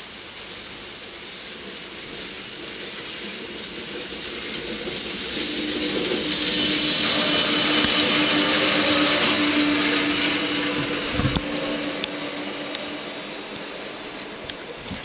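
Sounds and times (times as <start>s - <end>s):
electric locomotive whirring hum: 0.0s - 15.0s.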